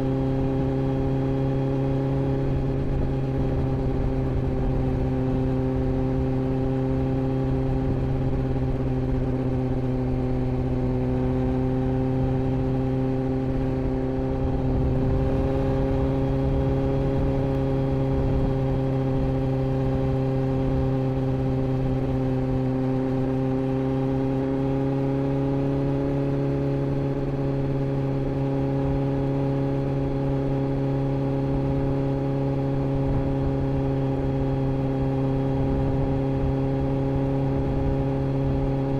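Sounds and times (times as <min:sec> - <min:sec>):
wind rumble on microphone: 0:00.0 - 0:23.5, 0:29.8 - 0:38.9
motorcycle engine running steadily: 0:00.0 - 0:38.9.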